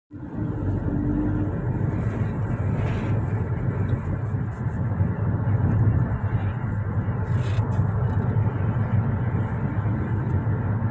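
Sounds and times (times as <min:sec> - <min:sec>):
city background rumble: 0:00.1 - 0:10.9.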